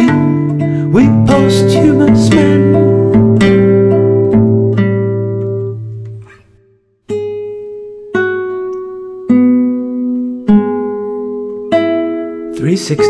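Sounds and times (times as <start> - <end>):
acoustic guitar chords strummed: 0.0 - 13.0.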